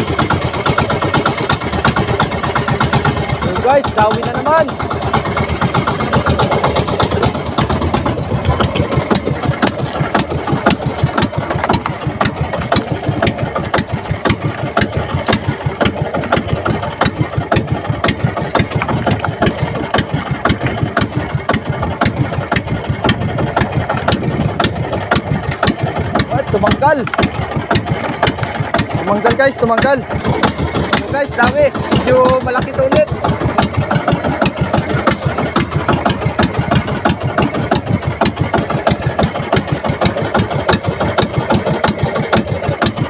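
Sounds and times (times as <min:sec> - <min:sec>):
small boat engine puttering: 0:00.0 - 0:43.0.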